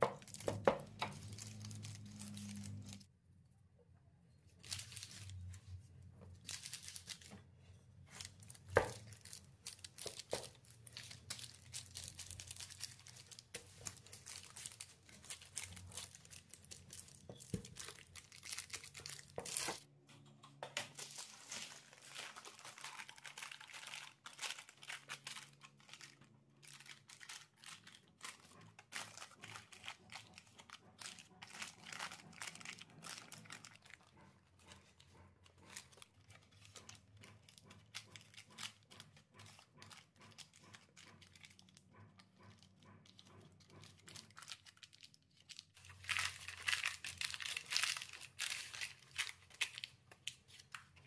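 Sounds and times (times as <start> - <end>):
rustling and crinkling: 4.4 - 19.9, 20.7 - 51.0.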